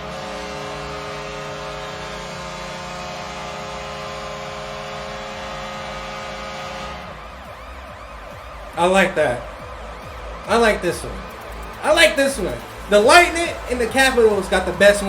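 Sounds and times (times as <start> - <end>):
goal horn blast: 0.0 - 15.0.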